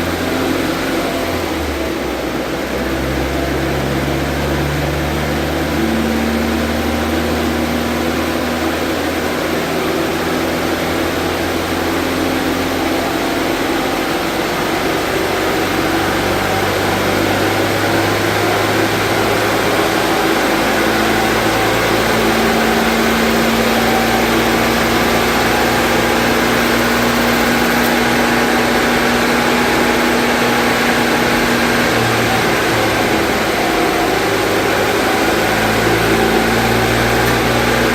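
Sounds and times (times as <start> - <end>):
car engine running under load: 0.0 - 37.9.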